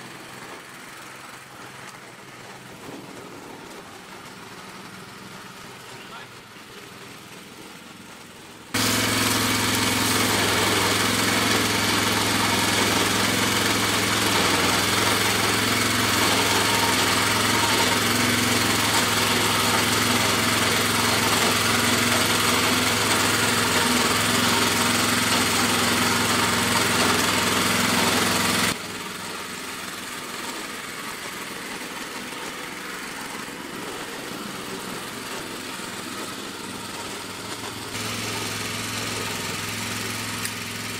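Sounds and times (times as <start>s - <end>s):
rototiller engine running: 0.0s - 40.9s.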